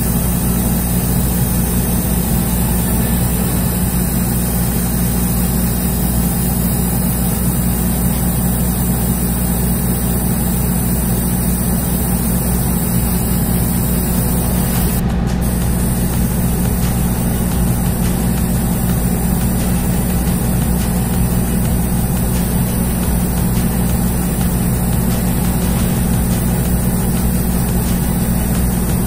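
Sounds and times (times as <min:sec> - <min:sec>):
motor hum: 0:00.0 - 0:29.0.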